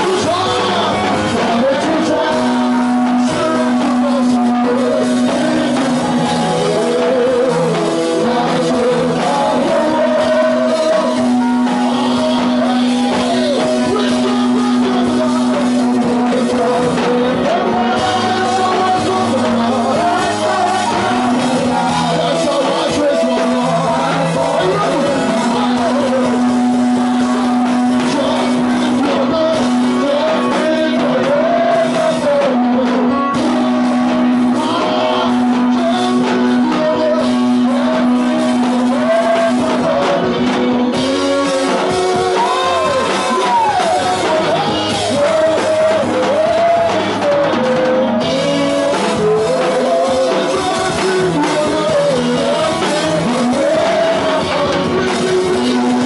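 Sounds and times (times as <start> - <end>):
electronic keyboard: 0.0 - 56.0
singers singing gospel together: 0.0 - 56.0.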